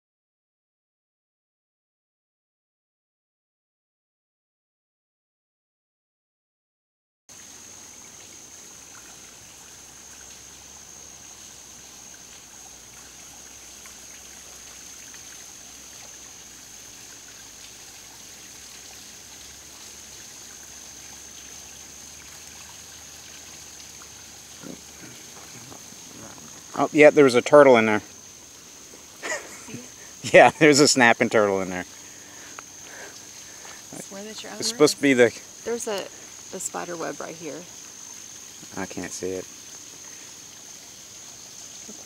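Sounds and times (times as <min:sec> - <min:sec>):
faint trickling water: 0:07.3 - 0:42.0
high-pitched insect drone: 0:07.3 - 0:42.0
soft hiss: 0:07.3 - 0:42.0.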